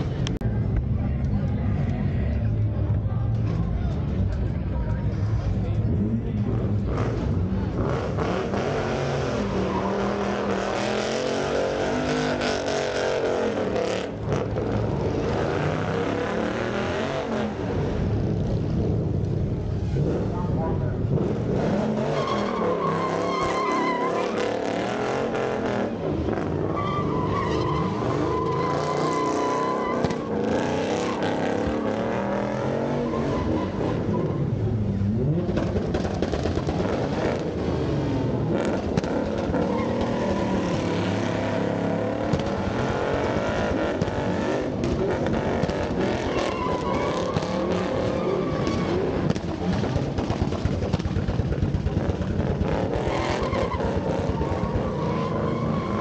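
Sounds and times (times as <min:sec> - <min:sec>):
car engine revving: 0:02.2 - 0:56.0
tires screeching on pavement: 0:03.4 - 0:56.0.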